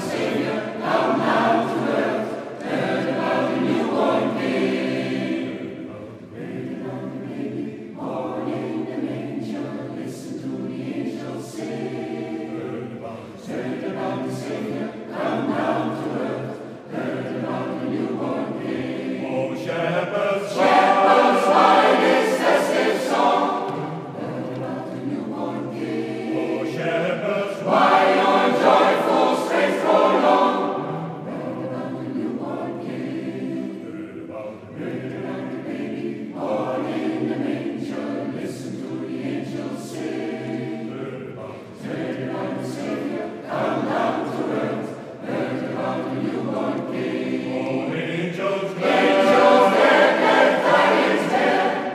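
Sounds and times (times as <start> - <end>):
mixed choir singing: 0.0 - 51.9.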